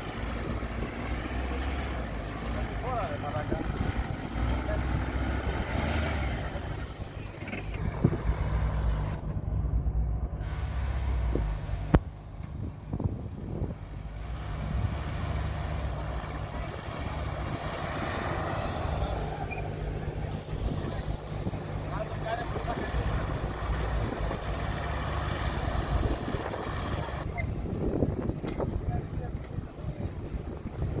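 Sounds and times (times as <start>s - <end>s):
engine running at low revs: 0.0s - 31.0s.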